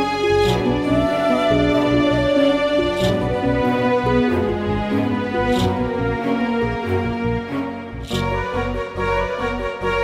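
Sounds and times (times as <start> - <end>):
instrumental film song: 0.0 - 10.0.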